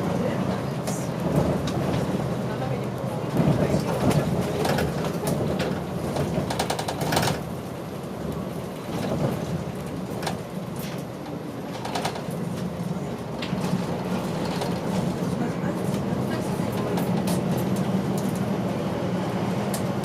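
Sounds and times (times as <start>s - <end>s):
bus body rattling: 0.0s - 20.0s
bus engine hum: 0.0s - 20.0s.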